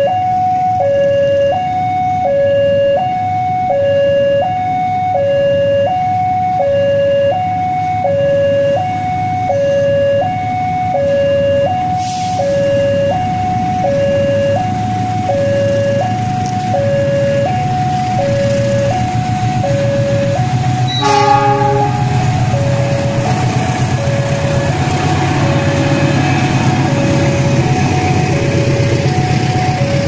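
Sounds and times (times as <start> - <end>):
diesel locomotive rumble: 0.0 - 30.0
two-tone crossing alarm: 0.0 - 30.0.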